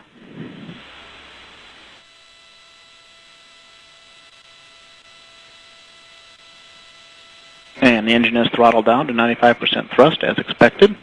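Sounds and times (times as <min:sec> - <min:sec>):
faint steady hiss: 0:00.0 - 0:06.7, 0:07.5 - 0:11.0
electrical hum: 0:00.0 - 0:11.0.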